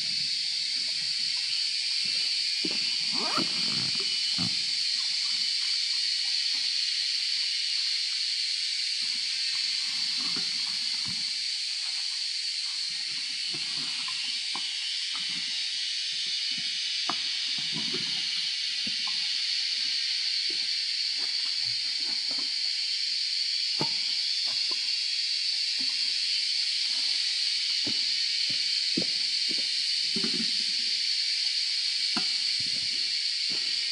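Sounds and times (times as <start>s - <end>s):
high-pitched hiss: 0.0s - 33.9s.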